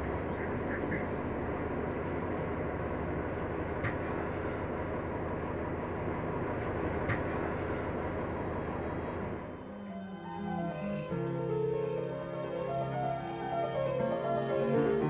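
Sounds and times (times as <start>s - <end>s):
city bus rumble from inside: 0.0s - 15.0s.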